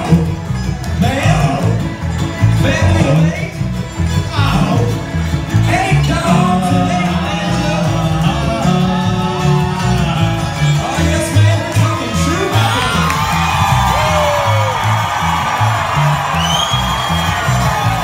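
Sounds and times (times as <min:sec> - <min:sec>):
acoustic guitar: 0:00.0 - 0:18.0
banjo: 0:00.0 - 0:18.0
upright bass: 0:00.0 - 0:18.0.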